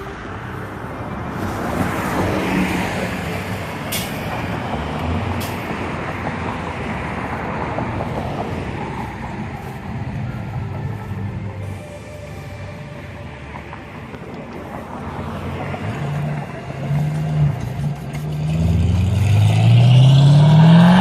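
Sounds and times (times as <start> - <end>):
traffic noise: 0.0 - 21.0
vehicle engine running: 0.0 - 21.0.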